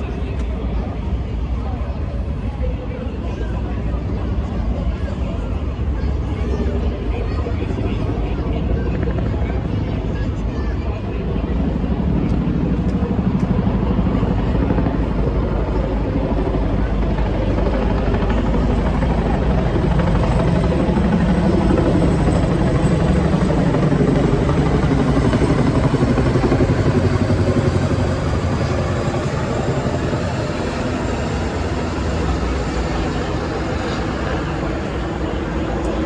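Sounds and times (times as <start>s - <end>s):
helicopter flying past: 0.0s - 36.0s.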